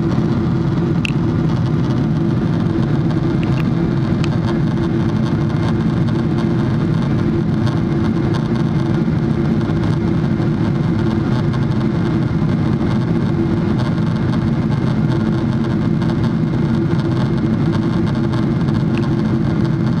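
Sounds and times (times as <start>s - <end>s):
jet engine drone in cabin: 0.0s - 20.0s
low steady hum: 0.0s - 20.0s.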